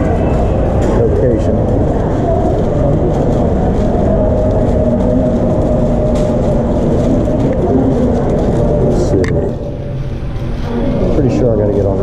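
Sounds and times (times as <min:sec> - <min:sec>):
low hum: 0:00.0 - 0:12.0
subway station rumble: 0:00.0 - 0:12.0.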